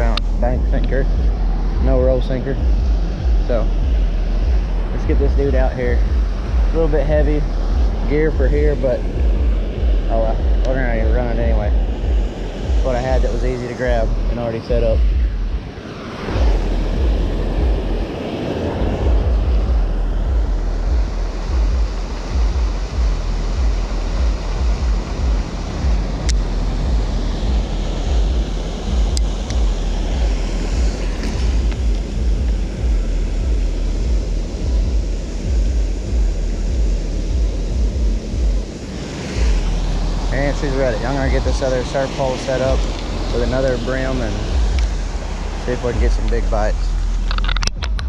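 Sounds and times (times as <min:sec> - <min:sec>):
whitewater rushing: 0:00.0 - 0:47.6
wind buffeting microphone: 0:00.0 - 0:48.0.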